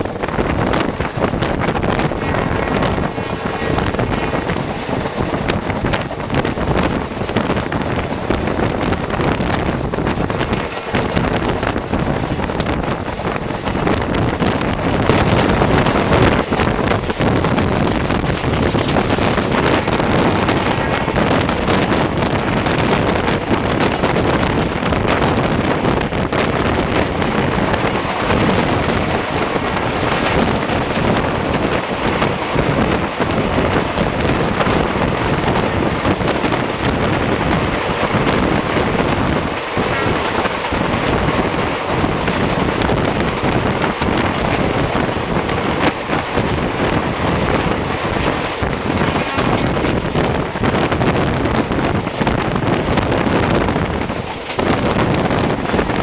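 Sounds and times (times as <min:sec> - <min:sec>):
train wheels rumbling on rails: 0:00.0 - 0:56.0
wind buffeting microphone: 0:00.0 - 0:56.0.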